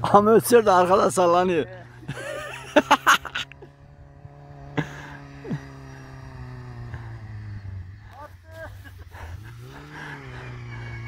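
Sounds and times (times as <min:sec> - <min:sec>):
off-road engine running: 0:00.0 - 0:11.0.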